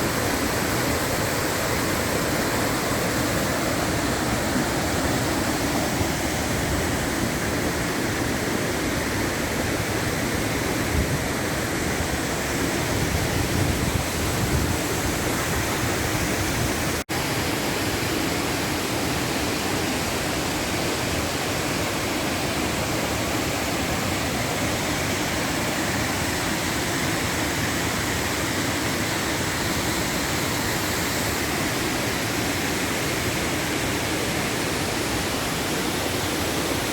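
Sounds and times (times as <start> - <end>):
running water rushing: 0.0 - 36.9.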